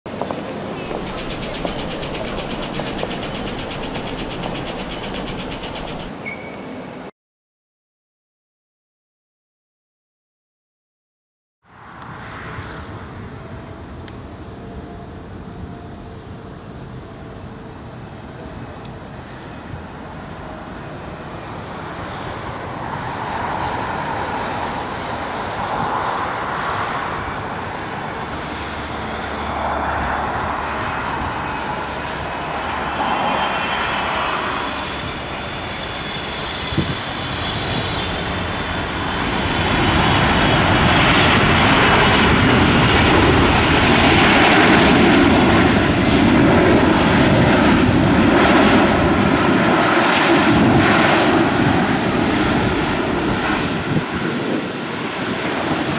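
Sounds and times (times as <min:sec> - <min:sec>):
jet engines whining and roaring: 0:00.1 - 0:07.1, 0:11.7 - 0:55.9.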